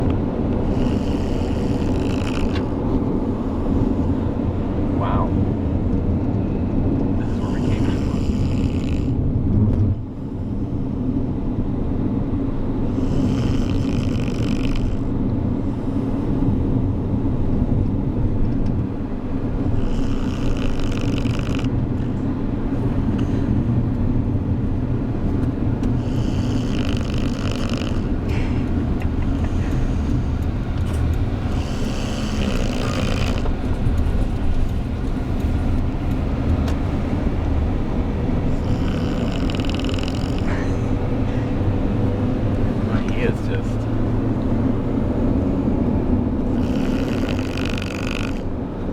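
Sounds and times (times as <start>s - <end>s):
dog snoring: 0.0s - 5.5s, 6.7s - 11.2s, 12.5s - 16.5s, 18.9s - 48.9s
car road rumble: 0.0s - 48.9s.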